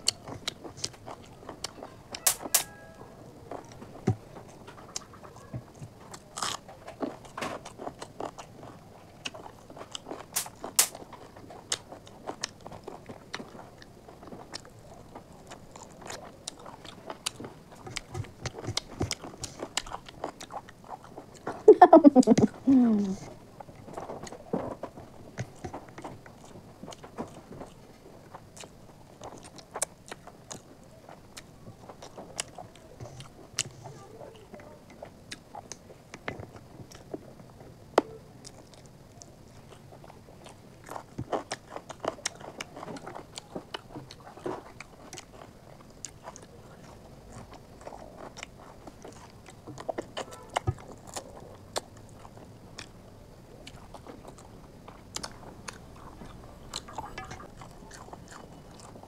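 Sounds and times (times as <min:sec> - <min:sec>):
person chewing and mouth sounds: 0:00.0 - 0:59.0.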